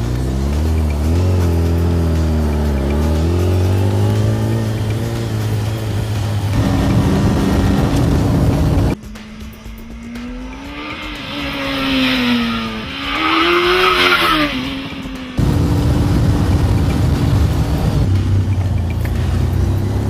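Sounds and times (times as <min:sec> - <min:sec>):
motorcycle engine revving by: 0:00.0 - 0:09.0, 0:10.0 - 0:20.0
steady low engine noise: 0:00.0 - 0:13.1, 0:15.1 - 0:20.0.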